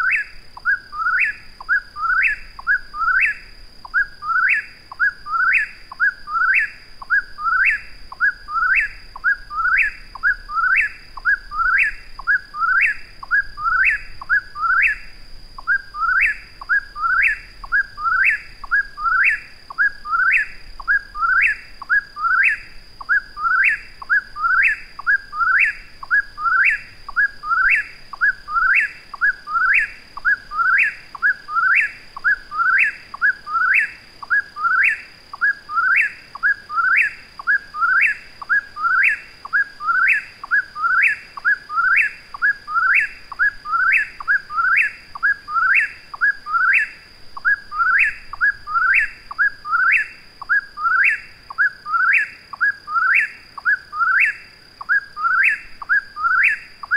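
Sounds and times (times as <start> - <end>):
bird singing repeated phrase: 0.0 - 56.9
faint steady high tone: 0.0 - 56.9.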